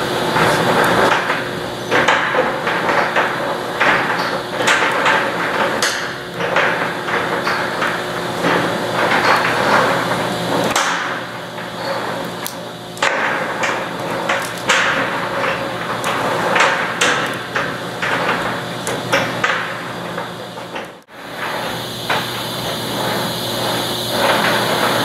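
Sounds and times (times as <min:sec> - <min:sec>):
chains clanking in rotating drum: 0:00.0 - 0:21.7
machinery hum: 0:00.0 - 0:25.0.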